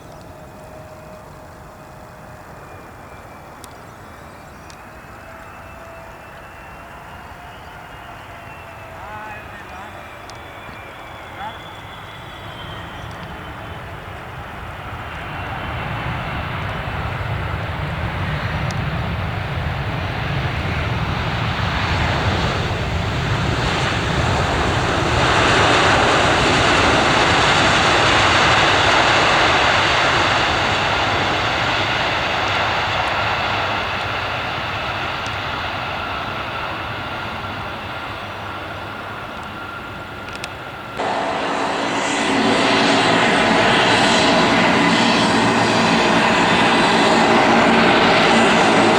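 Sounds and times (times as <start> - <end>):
aircraft engines passing by: 0.0 - 48.9.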